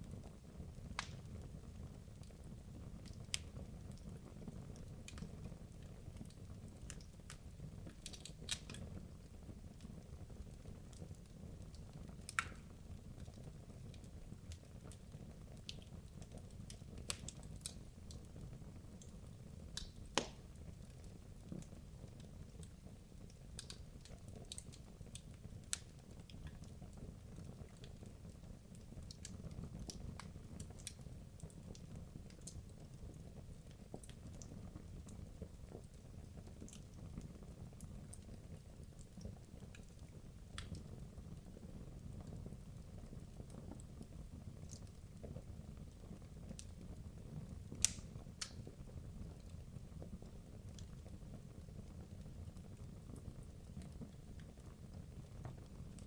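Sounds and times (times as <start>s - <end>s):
burning logs crackling and popping: 0.0s - 56.0s
rumble of fireplace flames: 0.0s - 56.0s.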